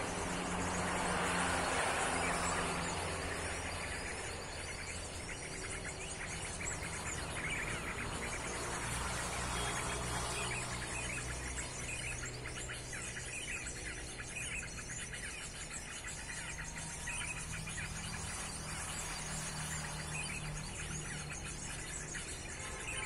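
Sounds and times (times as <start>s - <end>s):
rapid bird chirps: 0.0s - 23.0s
road traffic hum: 0.0s - 23.0s.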